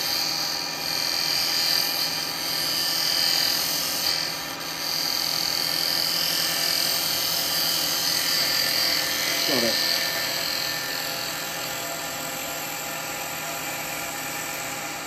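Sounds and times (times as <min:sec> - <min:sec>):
wood lathe cutting: 0:00.0 - 0:15.0.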